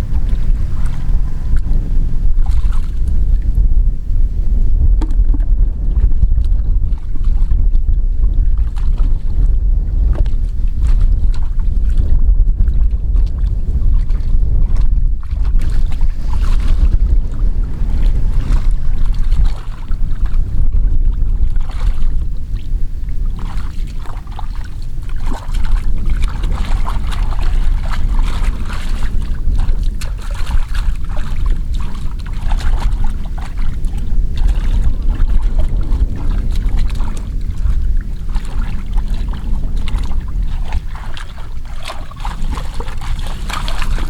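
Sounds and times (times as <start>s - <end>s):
water sloshing and splashing: 0.0s - 44.0s
wind rumble on microphone: 0.0s - 44.0s.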